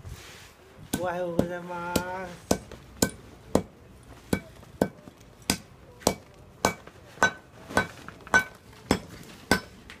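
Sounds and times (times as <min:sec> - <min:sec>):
hammer striking steel block: 0:00.9 - 0:03.7, 0:04.3 - 0:09.8.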